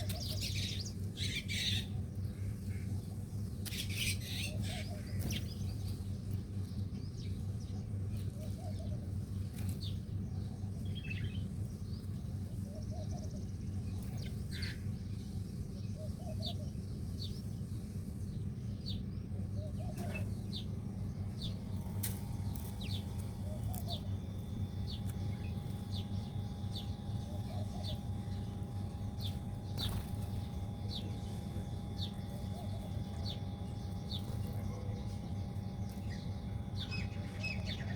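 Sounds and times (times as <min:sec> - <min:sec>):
faint steady whine: 0:00.0 - 0:37.9
small birds chirping: 0:00.0 - 0:37.9
steady low hum: 0:00.0 - 0:37.9.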